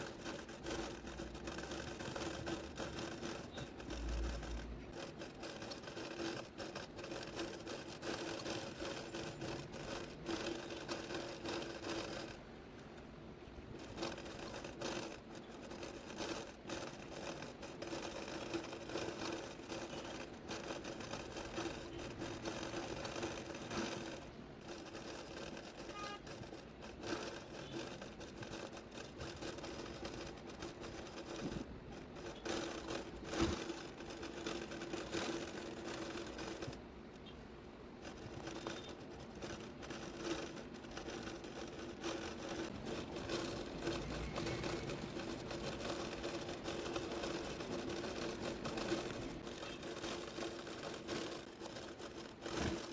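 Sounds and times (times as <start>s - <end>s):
needle and thread through fabric: 0.0s - 52.9s.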